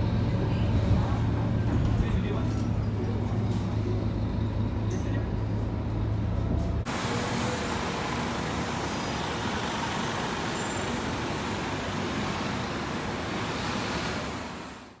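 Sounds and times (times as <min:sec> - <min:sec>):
bus diesel engine rumbling: 0:00.0 - 0:14.9.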